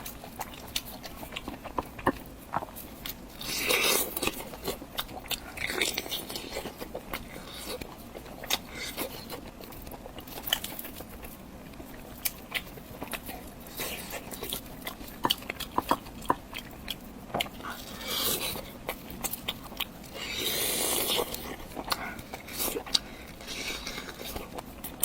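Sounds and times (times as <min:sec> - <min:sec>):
biting and chewing food: 0:00.0 - 0:25.0.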